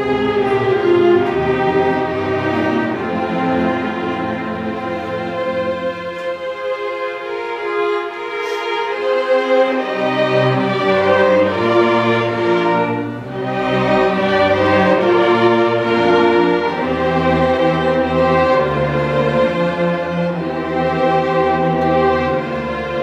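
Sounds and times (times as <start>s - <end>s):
string orchestra sustained chords: 0.0s - 23.0s.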